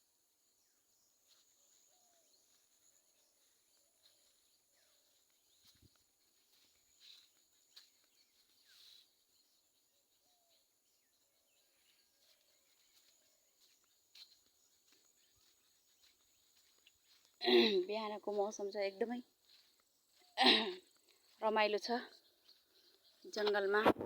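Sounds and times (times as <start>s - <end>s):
distant birdsong chirps: 0.0s - 23.9s.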